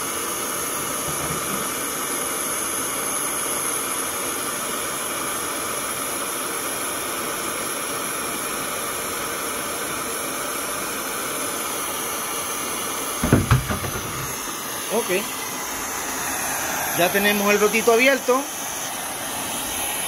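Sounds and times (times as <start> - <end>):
gas torch hissing: 0.0 - 20.0.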